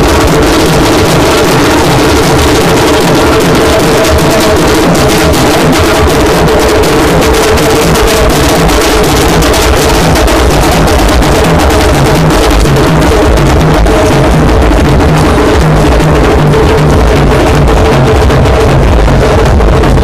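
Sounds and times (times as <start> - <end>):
heavy drum beat: 0.0 - 20.0
repeating bass line: 0.0 - 20.0.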